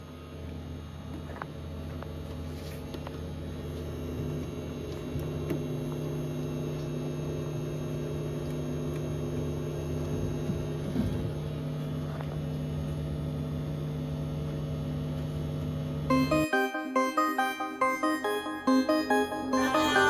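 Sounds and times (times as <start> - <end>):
amplifier electrical hum: 0.0 - 16.1.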